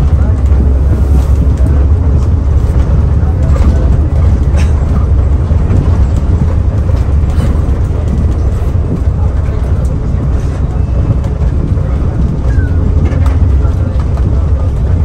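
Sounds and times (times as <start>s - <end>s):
bus engine drone: 0.0s - 15.0s
faint rattles: 0.0s - 15.0s
road rumble: 0.0s - 15.0s.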